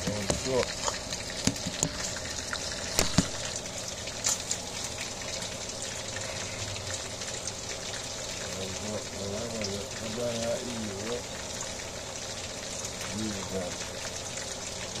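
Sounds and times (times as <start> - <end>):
food sizzling on stove: 0.0 - 15.0.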